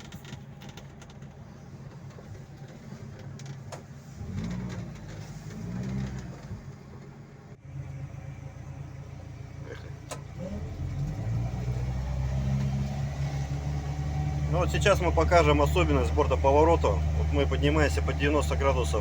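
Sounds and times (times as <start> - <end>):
vehicle engine running low: 0.0 - 19.0.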